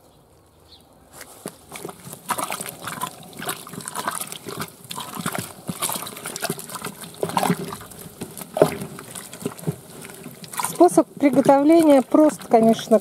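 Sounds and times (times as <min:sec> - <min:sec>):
stick stirring wet slurry: 0:01.2 - 0:13.0.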